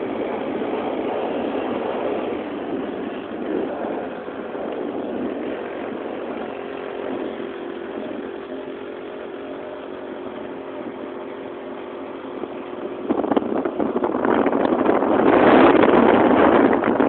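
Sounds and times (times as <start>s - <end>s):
small engine running: 0.0s - 13.7s.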